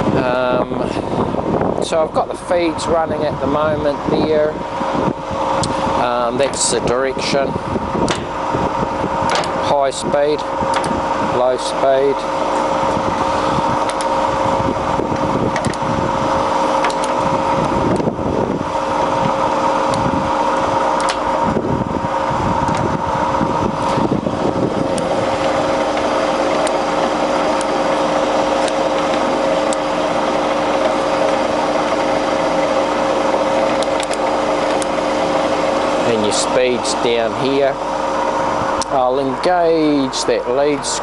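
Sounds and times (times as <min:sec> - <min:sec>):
lathe mechanical hum: 0:00.0 - 0:41.0.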